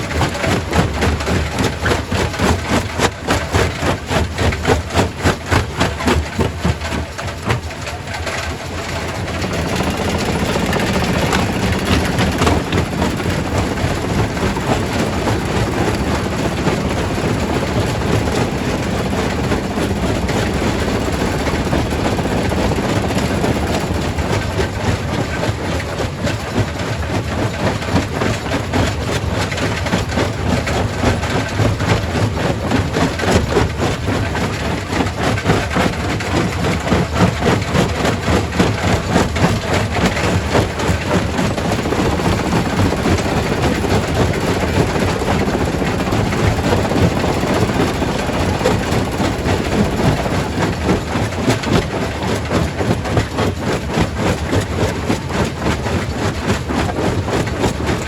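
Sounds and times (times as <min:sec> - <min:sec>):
rock crusher rumbling: 0:00.0 - 0:58.0.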